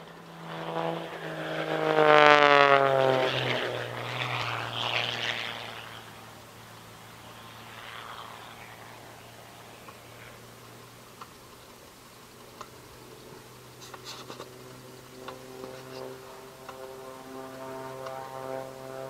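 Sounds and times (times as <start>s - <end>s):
aircraft flying past: 0.0s - 19.0s.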